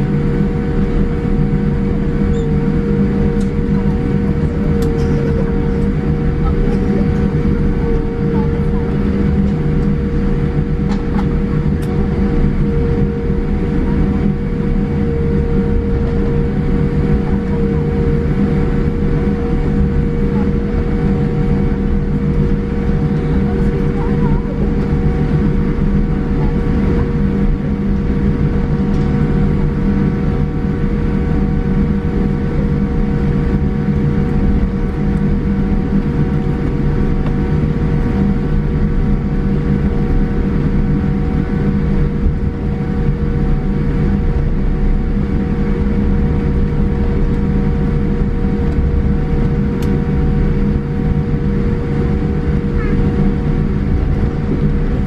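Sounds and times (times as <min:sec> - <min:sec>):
airplane cabin engine hum: 0:00.0 - 0:55.0.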